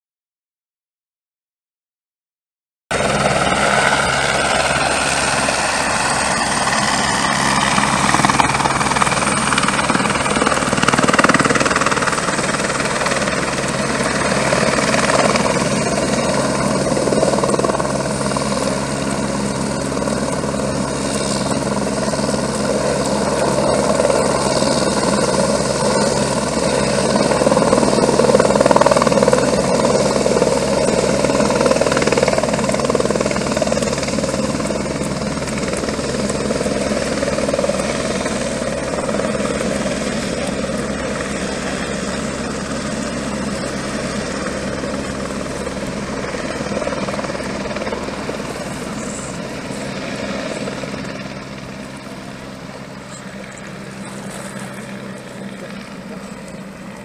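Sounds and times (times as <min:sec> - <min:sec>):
helicopter rotor and turbine: 0:02.9 - 0:57.0.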